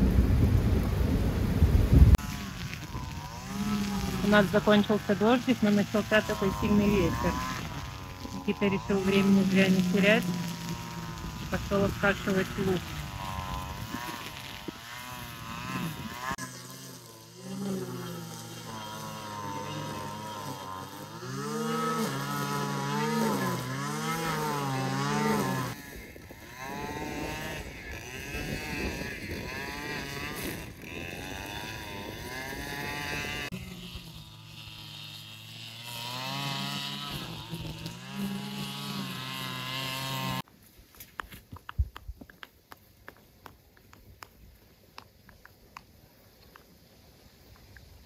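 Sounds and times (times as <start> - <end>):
grass trimmer engine revving: 0.0 - 40.5.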